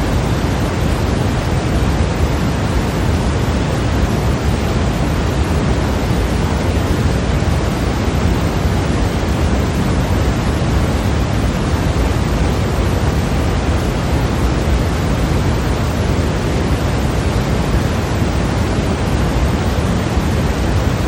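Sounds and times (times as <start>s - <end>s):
steady white noise hiss: 0.0s - 21.0s.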